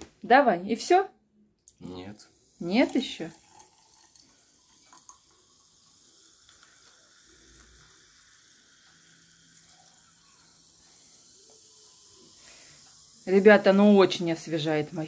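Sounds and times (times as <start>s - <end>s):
soda pouring and fizzing: 1.7s - 15.0s.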